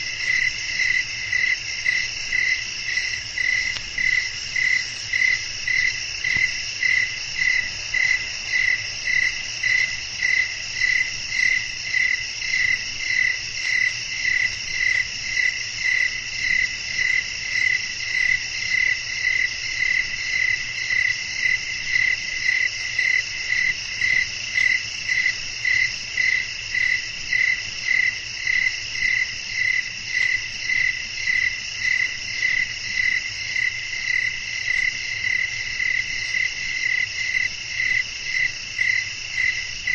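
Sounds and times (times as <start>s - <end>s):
cricket chirping: 0.0s - 39.9s
high insect trill: 0.0s - 39.9s.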